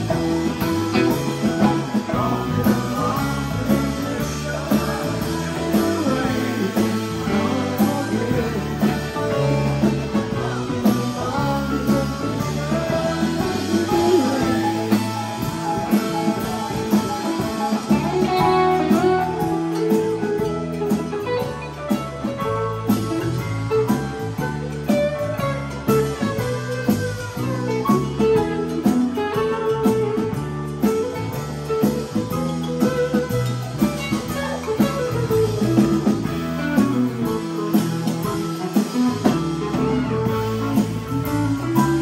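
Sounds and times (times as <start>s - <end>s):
congas: 0.0s - 42.0s
drum kit: 0.0s - 42.0s
electric bass: 0.0s - 42.0s
electric guitar: 0.0s - 42.0s
keyboards: 0.0s - 42.0s.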